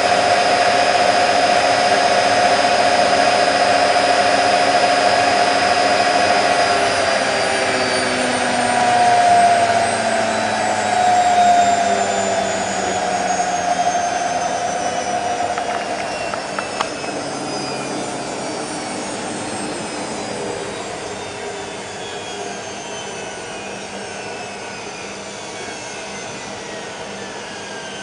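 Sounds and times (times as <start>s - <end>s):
washing machine spinning with whine: 0.0s - 28.0s.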